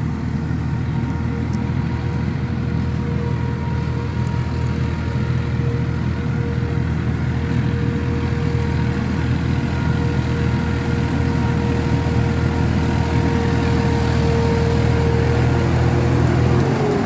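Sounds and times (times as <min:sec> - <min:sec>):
steady whine: 0:00.0 - 0:17.0
tractor diesel engine running: 0:00.0 - 0:17.0.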